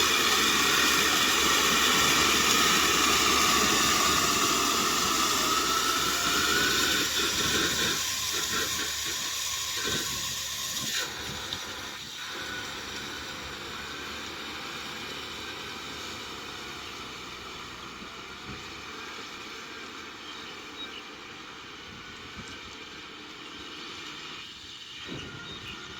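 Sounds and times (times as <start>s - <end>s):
tractor engine and rotavator: 0.0s - 25.9s.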